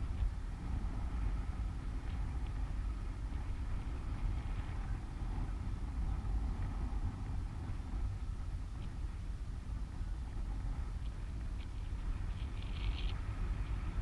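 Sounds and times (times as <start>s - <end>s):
faint wavering whine: 0.0s - 14.0s.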